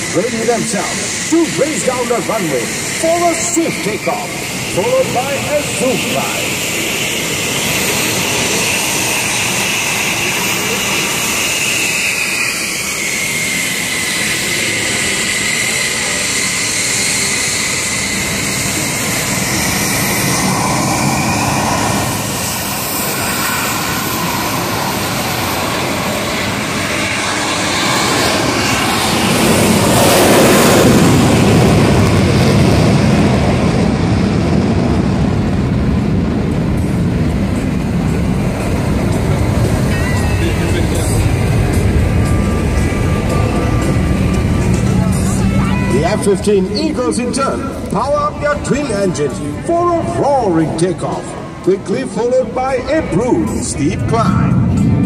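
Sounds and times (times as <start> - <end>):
high engine whine: 0.0 - 55.0
jet engines running: 0.0 - 55.0.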